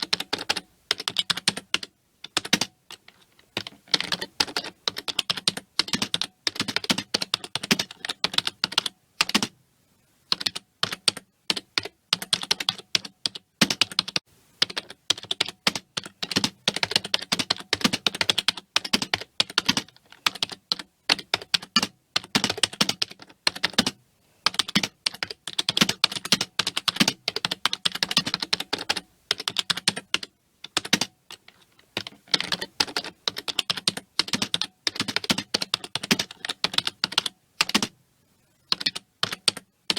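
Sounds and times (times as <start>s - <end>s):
fast typing on keyboard: 0.0s - 9.6s, 10.3s - 39.9s.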